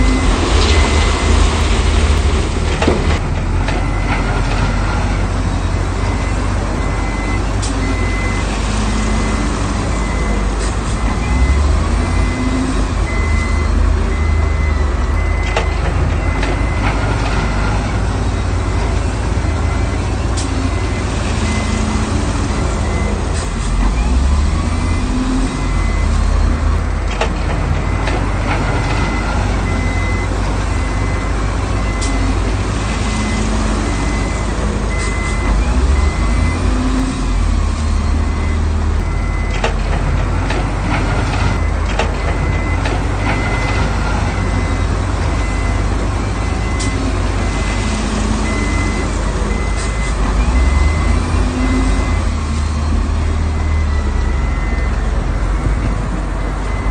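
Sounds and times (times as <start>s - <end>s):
heavy machinery engine rumble: 0.0s - 56.9s
reversing alarm beeping: 0.0s - 56.9s.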